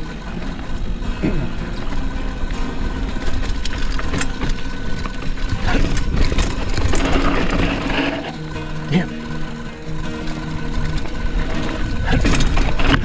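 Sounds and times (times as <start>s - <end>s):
bike clicks and rattles: 0.0s - 13.0s
bike tyre noise: 0.0s - 13.0s
rushing wind: 0.0s - 13.0s
steady low buzz: 0.0s - 13.0s.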